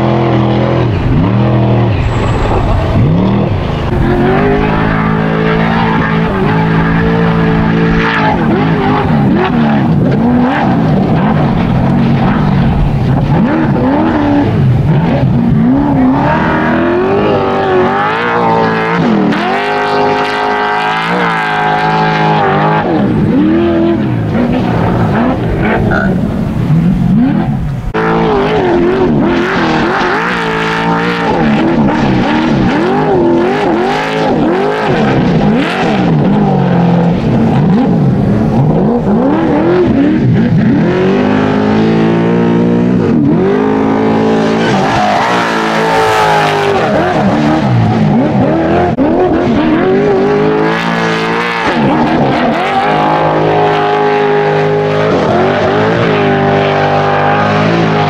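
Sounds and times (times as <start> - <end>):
race engines revving: 0.0 - 58.0.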